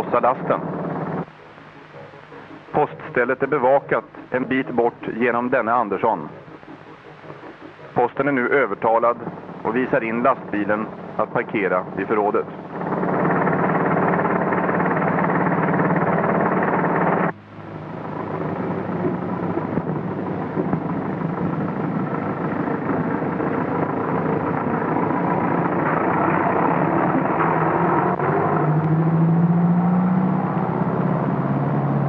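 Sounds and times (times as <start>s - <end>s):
truck diesel engine running: 0.0s - 32.0s.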